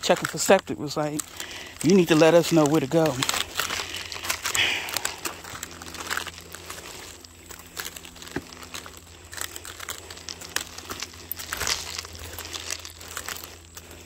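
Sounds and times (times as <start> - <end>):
footsteps crunching through dry brush: 0.0 - 14.0
twigs snapping underfoot: 0.0 - 14.0.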